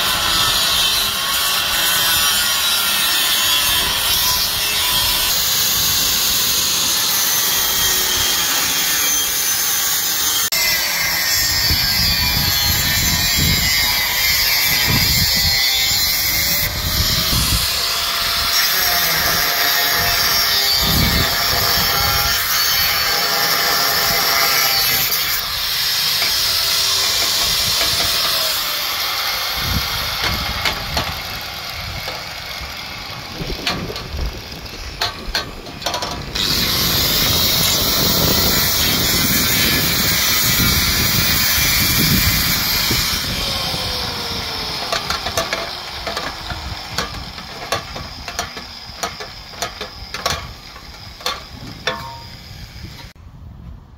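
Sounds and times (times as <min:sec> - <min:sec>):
angle grinder cutting steel pipe: 0:00.0 - 0:53.2.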